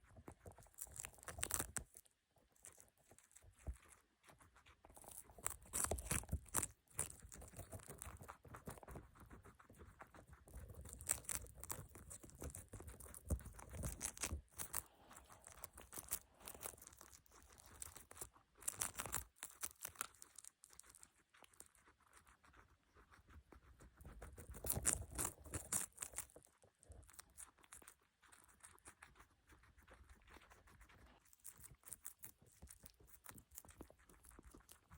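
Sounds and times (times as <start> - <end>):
guinea pig crunching and rustling: 0.0 - 34.9.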